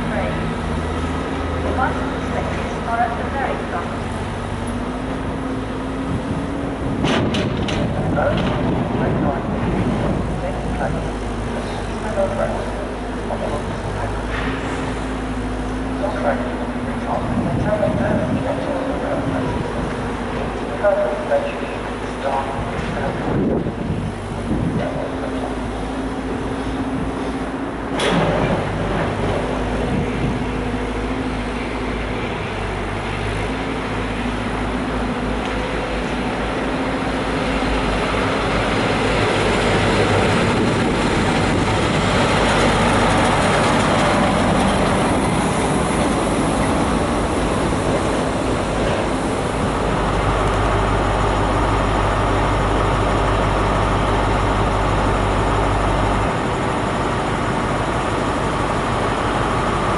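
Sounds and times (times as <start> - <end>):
diesel engine idling: 0.0 - 59.9
diesel train passing: 0.0 - 59.9.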